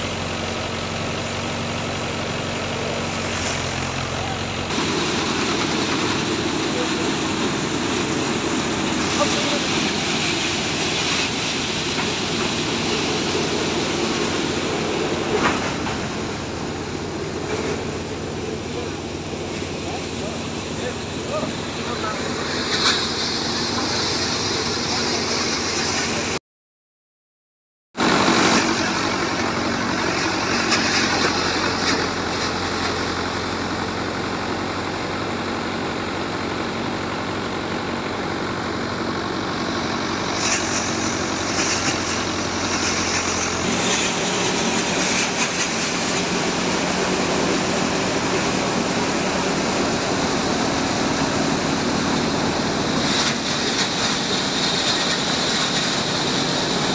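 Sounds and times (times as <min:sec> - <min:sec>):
thresher and tractor hum: 0:00.0 - 0:26.4, 0:28.0 - 0:56.9.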